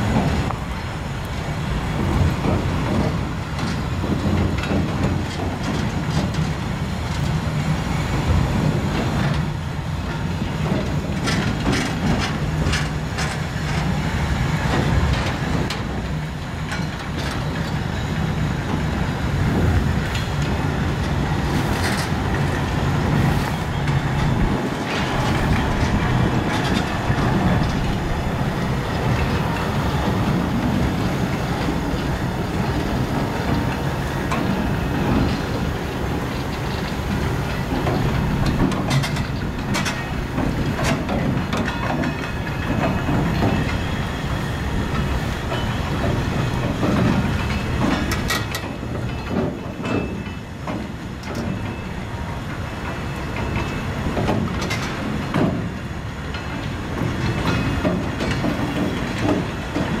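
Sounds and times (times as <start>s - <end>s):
freight train wheels clattering: 0.0s - 60.0s.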